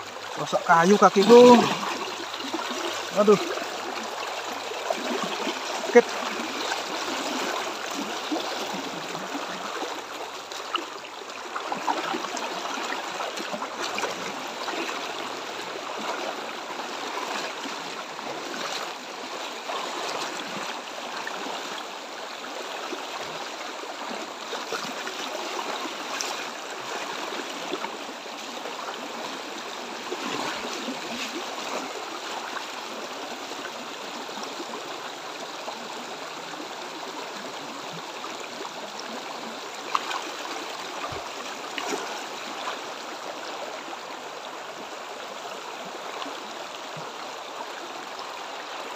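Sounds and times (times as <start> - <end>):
river water rushing over stones: 0.0 - 48.9.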